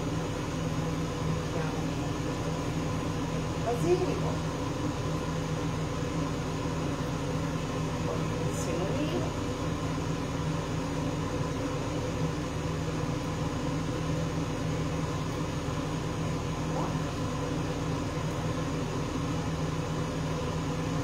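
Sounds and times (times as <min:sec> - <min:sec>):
fan motor humming: 0:00.0 - 0:21.0.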